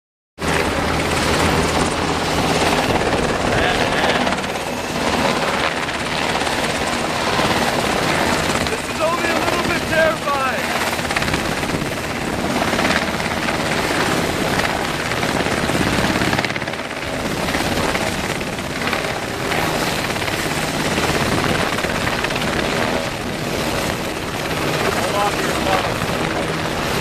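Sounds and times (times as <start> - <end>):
helicopter hovering: 0.4 - 27.0.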